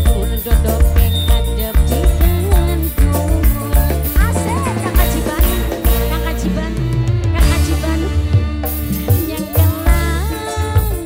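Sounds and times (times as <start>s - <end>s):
deep drum beats: 0.0s - 11.0s
live band music: 0.0s - 11.0s.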